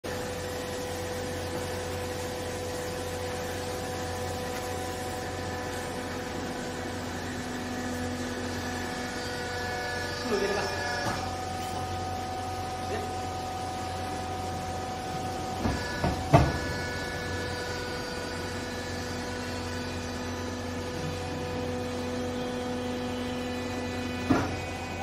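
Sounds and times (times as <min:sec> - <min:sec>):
hydraulic pump humming: 0:00.0 - 0:25.0.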